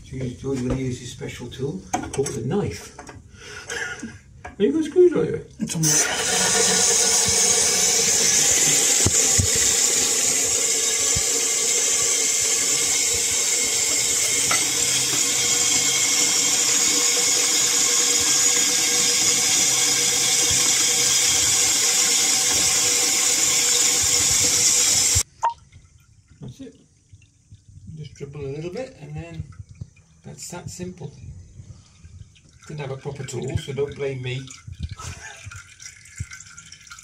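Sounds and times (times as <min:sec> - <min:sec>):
water rushing into toilet cistern: 0:05.7 - 0:30.9, 0:31.6 - 0:37.0.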